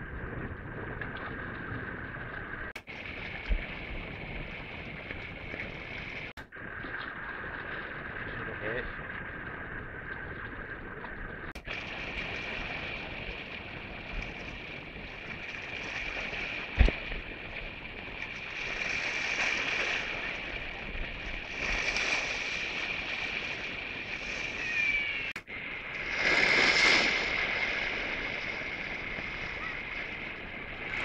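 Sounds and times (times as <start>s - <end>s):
surf washing against rocks: 0.0s - 10.1s, 11.5s - 31.0s
wind on microphone: 0.0s - 31.0s.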